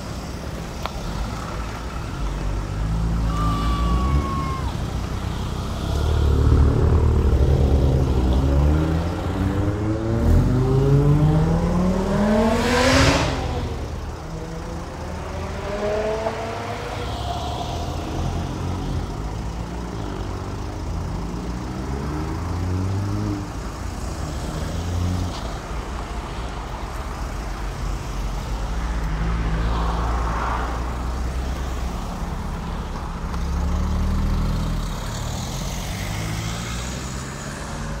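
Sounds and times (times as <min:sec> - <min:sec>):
car engines accelerating: 0:00.0 - 0:38.0.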